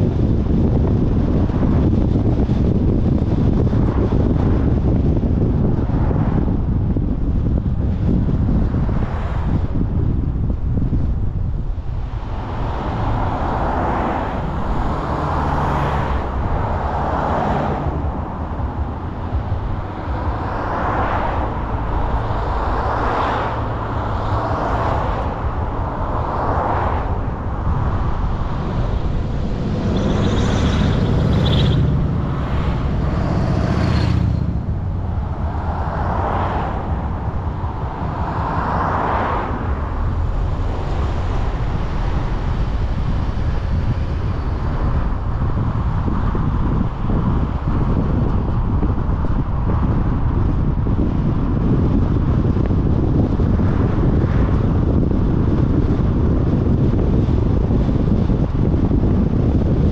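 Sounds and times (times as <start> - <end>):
car road and engine noise: 0.0 - 59.9
low rumble: 0.0 - 59.9.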